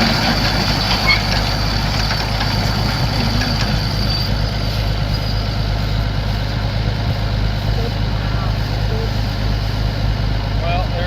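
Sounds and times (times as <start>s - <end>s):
square baler working: 0.0s - 11.0s
tractor engine running: 0.0s - 11.0s.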